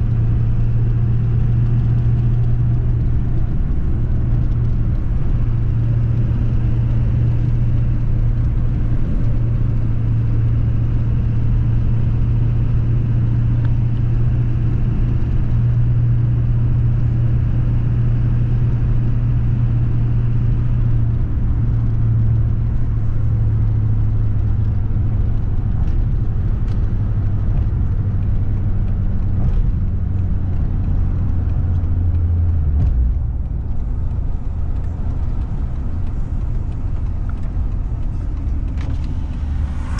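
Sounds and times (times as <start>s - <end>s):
motor vehicle engine drone: 0.0s - 39.9s.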